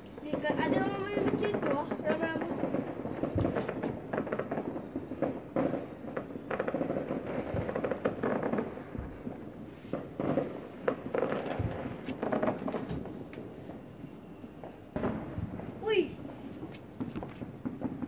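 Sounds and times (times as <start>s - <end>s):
fireworks cracks and bangs: 0.0s - 18.0s.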